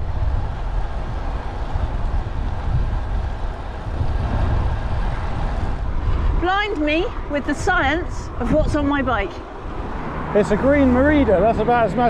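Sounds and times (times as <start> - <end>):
road noise: 0.0 - 12.0
wind rumble on microphone: 0.0 - 12.0.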